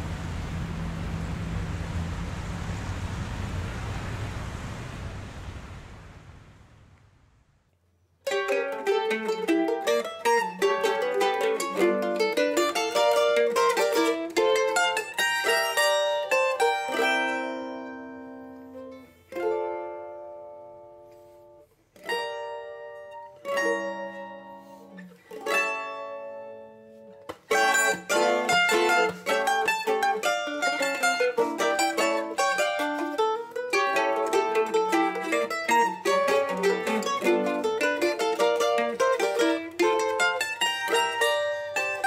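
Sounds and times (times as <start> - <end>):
plucked string instruments: 8.2 - 42.0.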